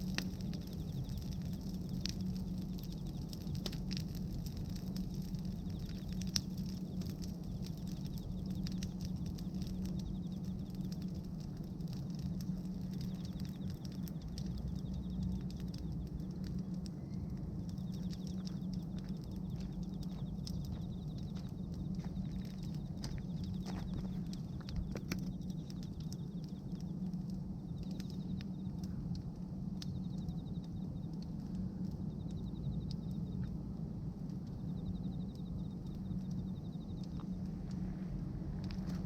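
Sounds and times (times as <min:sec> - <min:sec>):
bonfire crackling and popping: 0:00.0 - 0:39.0
low rumble: 0:00.0 - 0:39.0.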